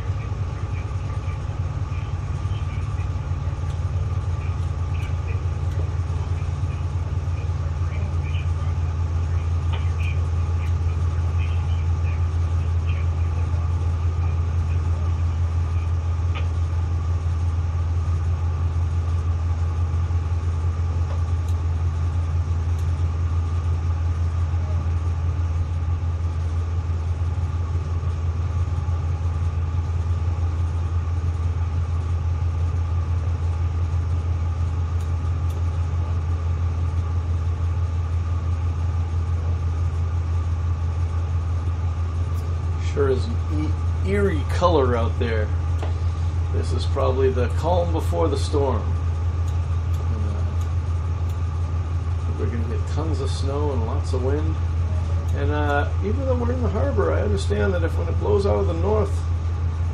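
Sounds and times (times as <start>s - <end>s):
diesel engine deep drone: 0.0s - 59.9s
higher steady hum: 0.0s - 59.9s.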